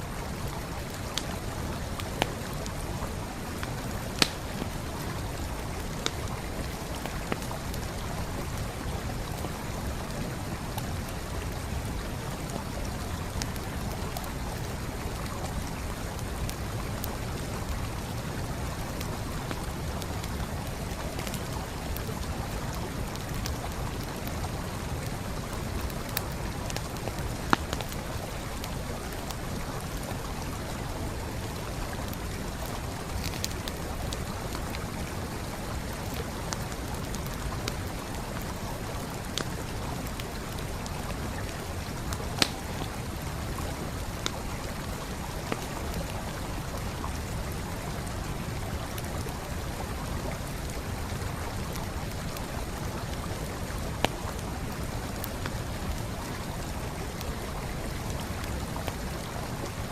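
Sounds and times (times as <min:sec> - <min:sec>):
stream flowing: 0:00.0 - 0:59.9
campfire crackling: 0:00.1 - 0:59.9.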